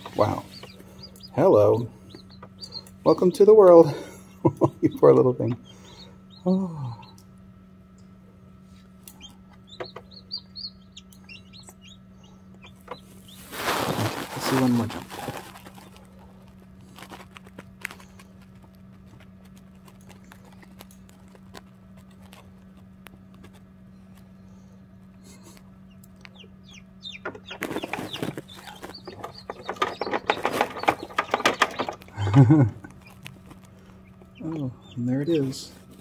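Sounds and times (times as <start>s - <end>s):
chicks peeping: 0.0s - 7.3s, 8.8s - 36.0s
incubator low hum: 0.0s - 36.0s.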